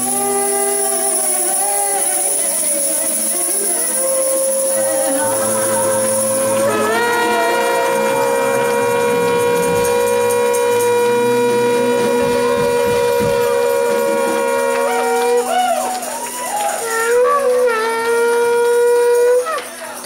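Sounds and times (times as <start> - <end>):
shofar blasts: 0.0 - 20.0.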